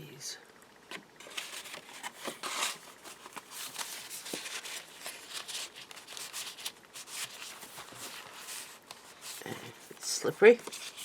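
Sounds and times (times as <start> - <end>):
paper sheets rustling: 1.2 - 11.0.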